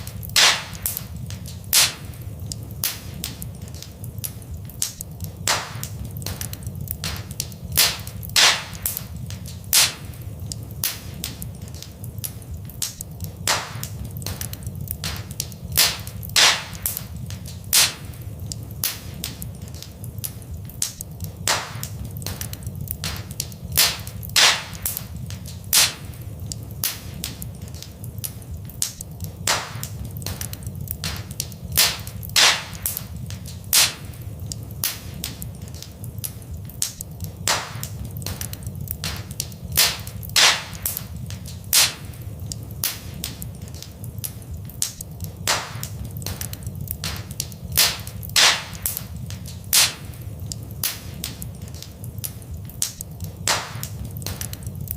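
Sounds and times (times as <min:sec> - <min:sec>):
fire crackling: 0:00.0 - 0:54.9
low rumble of flames: 0:00.0 - 0:54.9
sharp pops of fire: 0:00.0 - 0:54.9.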